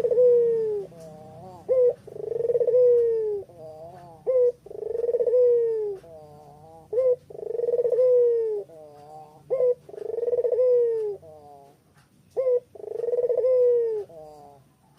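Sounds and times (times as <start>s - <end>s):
dove cooing: 0.0s - 14.9s.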